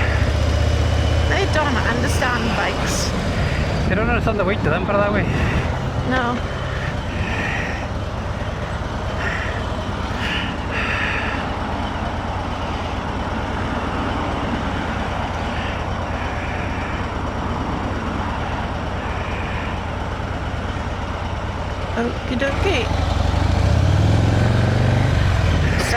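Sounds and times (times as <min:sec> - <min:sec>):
motorcycle engine: 0:00.0 - 0:25.9
road noise: 0:00.0 - 0:25.9.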